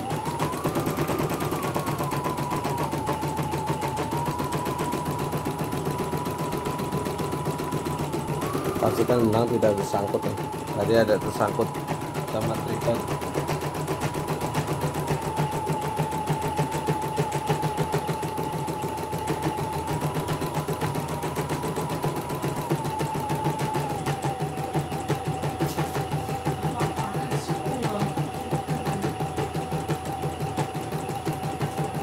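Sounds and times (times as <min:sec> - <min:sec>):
embroidery machine motor whine: 0:00.0 - 0:32.0
rapid needle strokes: 0:00.0 - 0:32.0.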